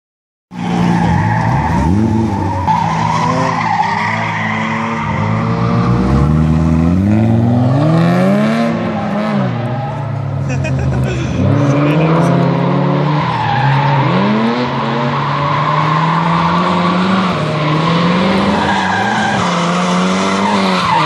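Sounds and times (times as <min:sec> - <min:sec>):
tyres skidding and squealing: 0:00.5 - 0:21.0
car engine revving: 0:00.6 - 0:21.0.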